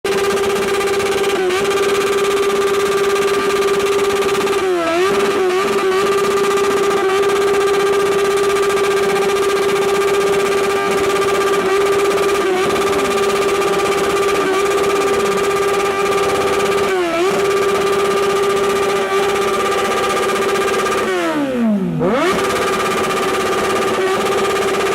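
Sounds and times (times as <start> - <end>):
motorcycle engine revving: 0.1 - 24.9.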